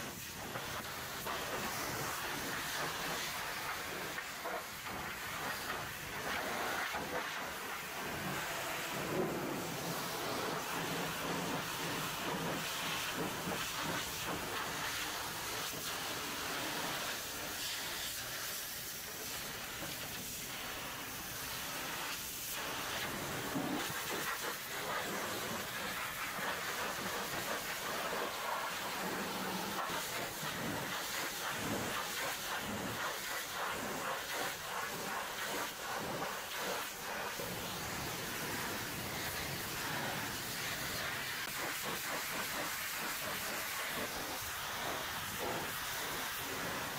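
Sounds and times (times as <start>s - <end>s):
pressure washer spray hitting metal: 0.0s - 46.9s.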